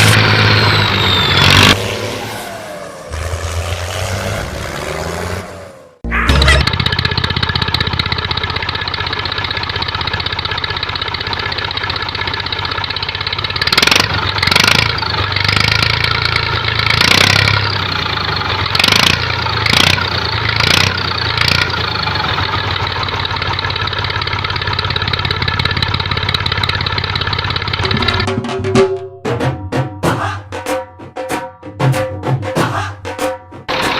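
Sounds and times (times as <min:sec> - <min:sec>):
engine throttle blips: 0:00.0 - 0:28.6
tractor engine running: 0:00.0 - 0:29.0, 0:33.7 - 0:33.9.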